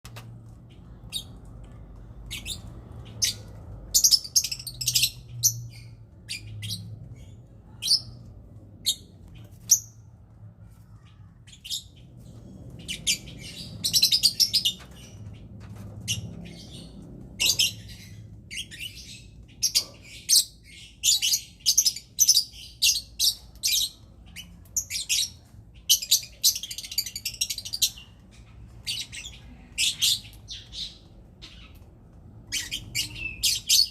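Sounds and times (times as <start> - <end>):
lovebirds chirping: 0.3 - 33.9.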